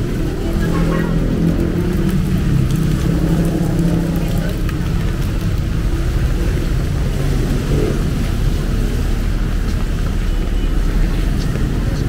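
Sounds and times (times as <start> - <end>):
diesel engine droning: 0.0 - 12.0
rain hiss: 0.0 - 12.0
wet street traffic: 0.0 - 12.0.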